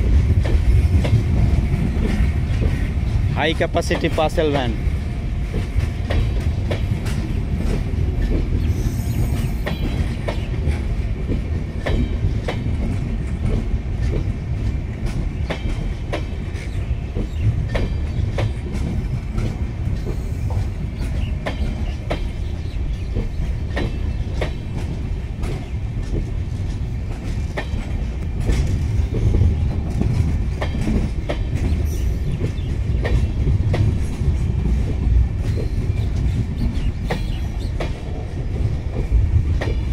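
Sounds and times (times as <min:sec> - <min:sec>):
wheels clicking over rail joints: 0:00.0 - 0:39.9
wheels rumbling on rail: 0:00.0 - 0:39.9.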